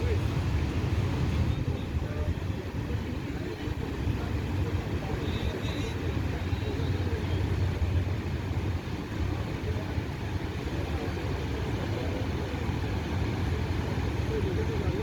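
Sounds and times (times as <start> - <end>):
waterfall rumble: 0.0 - 15.0.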